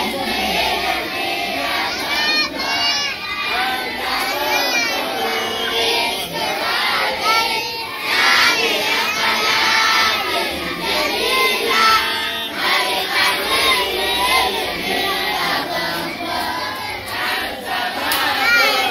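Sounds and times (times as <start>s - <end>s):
crowd of children shouting: 0.0s - 18.9s.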